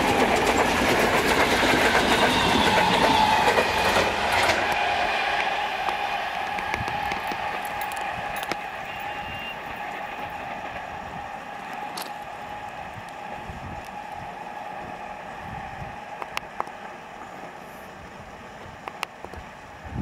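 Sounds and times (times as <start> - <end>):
distant electric train rumble: 0.0 - 20.0.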